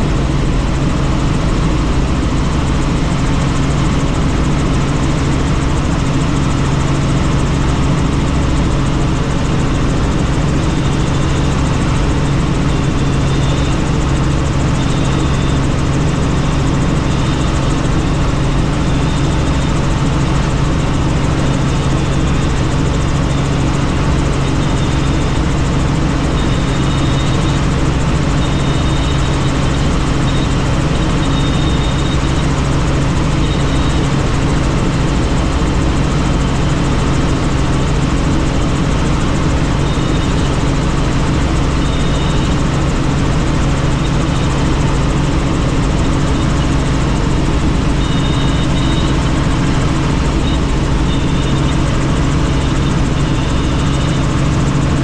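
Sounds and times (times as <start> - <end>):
helicopter engine and rotor drone: 0.0 - 55.0
faint high whine: 6.0 - 36.8, 38.6 - 55.0.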